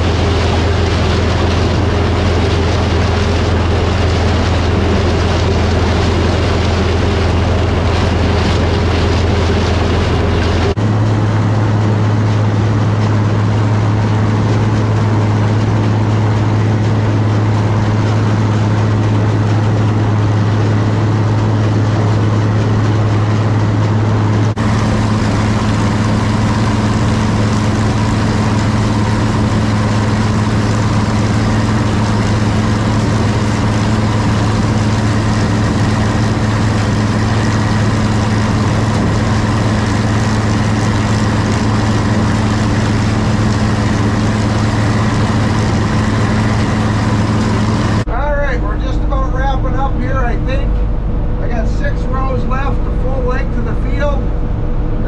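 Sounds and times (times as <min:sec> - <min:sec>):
corn picker machinery drone: 0:00.0 - 0:55.0.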